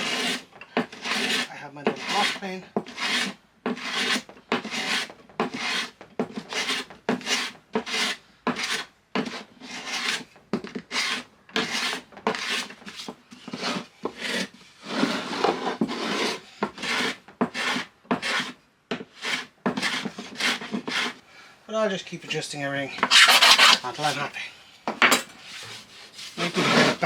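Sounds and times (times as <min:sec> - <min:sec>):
block plane shaving wood: 0:00.0 - 0:10.3, 0:10.9 - 0:21.2, 0:23.0 - 0:24.2, 0:25.4 - 0:27.0.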